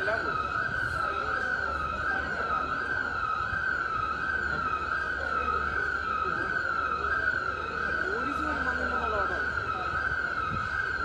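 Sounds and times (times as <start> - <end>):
high electronic alarm tone wavering: 0.0 - 11.0.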